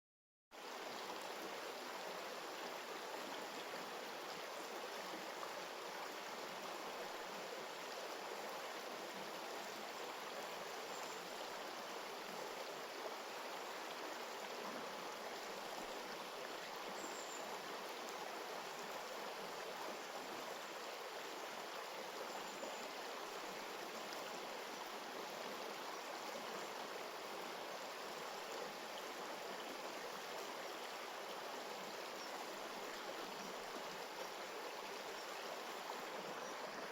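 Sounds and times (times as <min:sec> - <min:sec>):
stream water flowing: 0:00.6 - 0:36.9.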